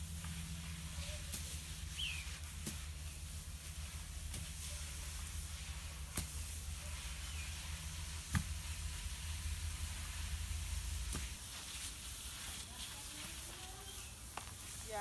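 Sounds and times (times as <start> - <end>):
low steady rumble: 0.0 - 15.0
rake rustling through grass: 0.0 - 15.0.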